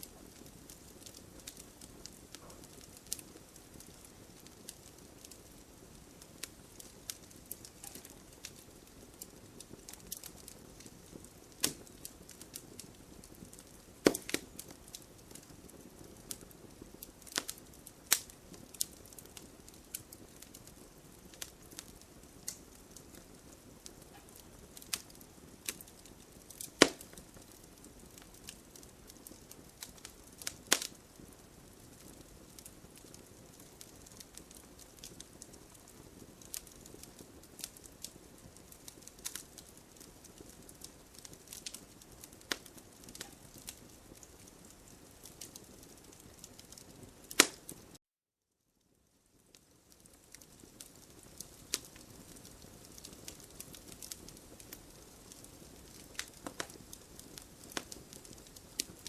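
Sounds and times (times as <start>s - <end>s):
campfire crackling and popping: 0.0s - 48.0s, 49.1s - 59.0s.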